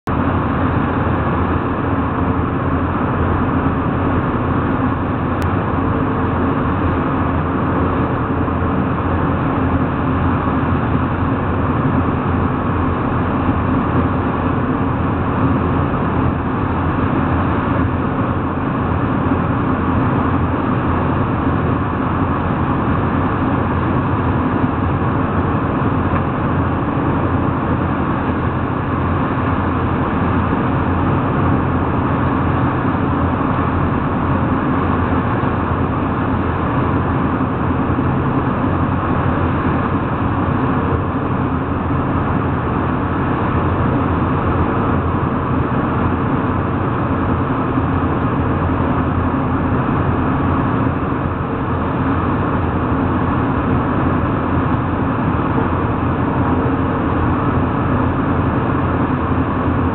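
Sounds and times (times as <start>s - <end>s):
outboard motors droning: 0.1s - 59.9s.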